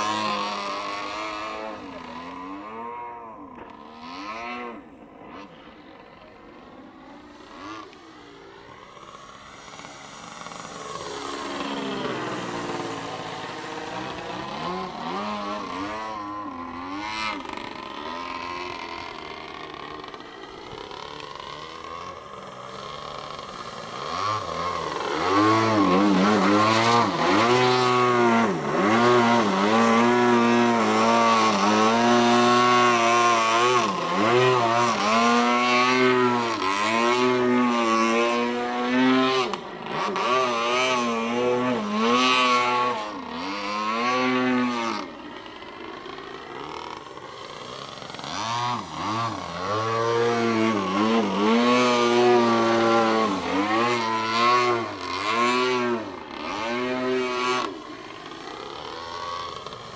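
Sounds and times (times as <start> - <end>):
model airplane engine and propeller: 0.0 - 59.9.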